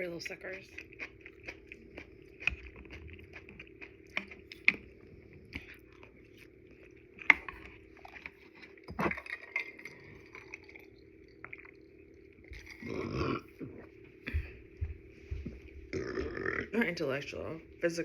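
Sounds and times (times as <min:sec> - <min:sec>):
person chewing noodles: 0:00.7 - 0:16.7.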